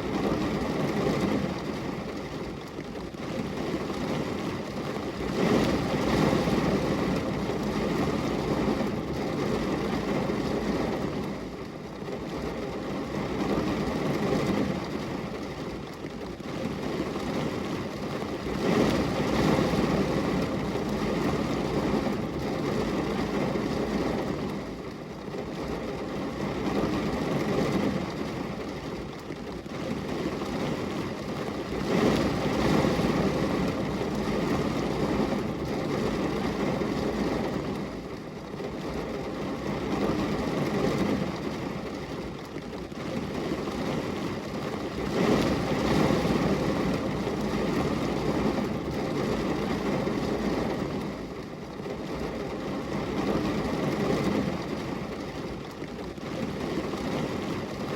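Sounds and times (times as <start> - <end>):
rain on window glass: 0.0 - 57.9.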